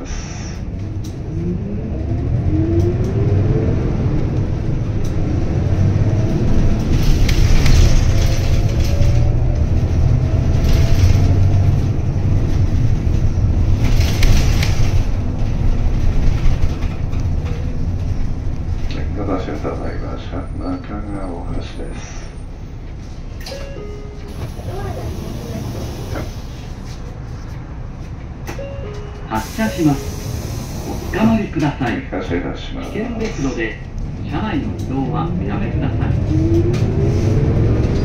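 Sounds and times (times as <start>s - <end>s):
bus engine drone: 0.0s - 38.0s.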